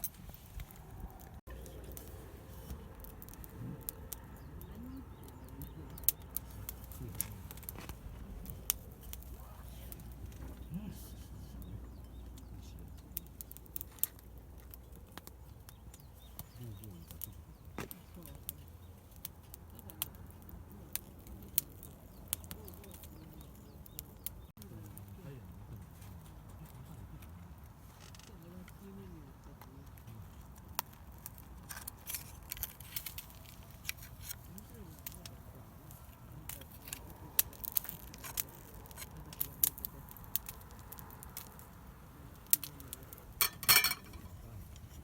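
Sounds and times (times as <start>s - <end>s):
faint distant voices: 0.0s - 45.0s.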